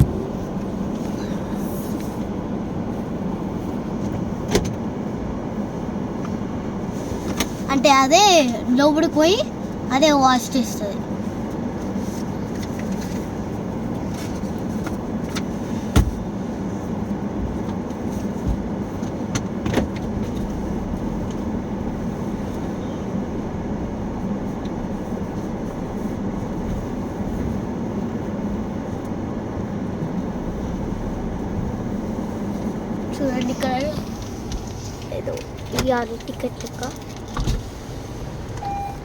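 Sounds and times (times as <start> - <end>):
car running heard from inside: 0.0 - 39.0.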